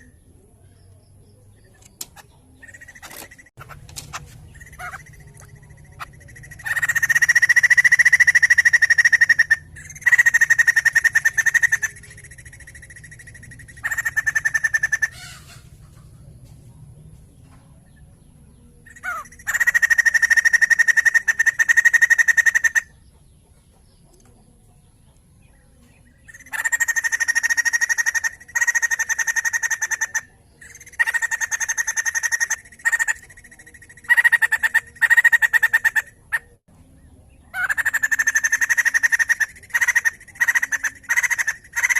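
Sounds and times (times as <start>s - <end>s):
bird buzzy chattering: 0.8s - 16.3s, 18.8s - 24.4s, 26.0s - 36.6s, 37.4s - 41.9s.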